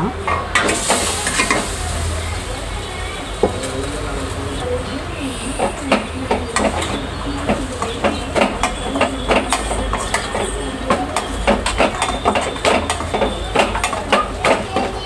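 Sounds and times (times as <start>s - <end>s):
frying hiss: 0.0s - 15.0s.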